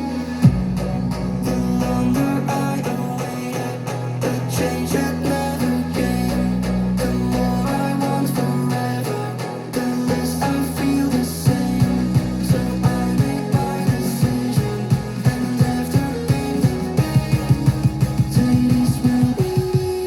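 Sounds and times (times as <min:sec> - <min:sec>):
guitar rock music through speakers: 0:00.2 - 0:20.0
steady drum beat: 0:00.4 - 0:08.5, 0:09.4 - 0:20.0.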